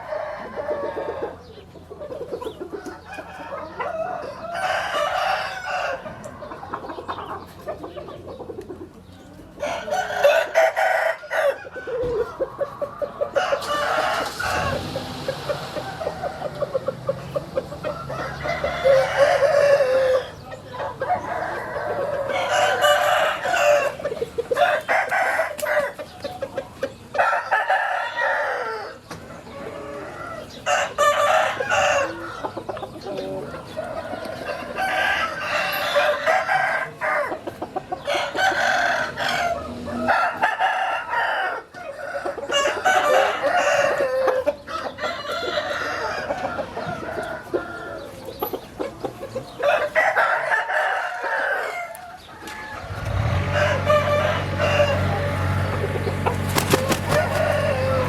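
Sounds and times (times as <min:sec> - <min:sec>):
chickens clucking: 0:00.0 - 0:58.0
roosters crowing: 0:00.0 - 0:58.0.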